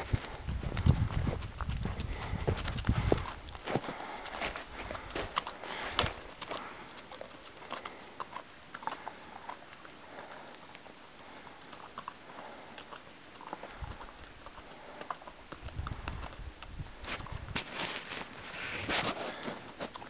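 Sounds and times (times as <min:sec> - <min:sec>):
hoofbeats on gravel: 0:00.0 - 0:10.5, 0:12.3 - 0:20.0.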